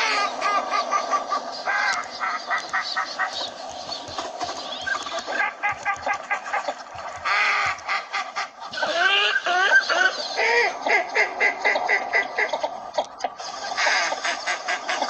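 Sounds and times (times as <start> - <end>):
ducks quacking and clucking: 0.0 - 15.0.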